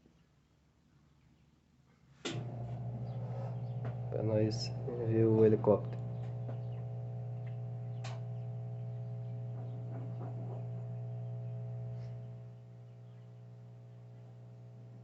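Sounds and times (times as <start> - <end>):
washing machine spinning: 2.3 - 15.0.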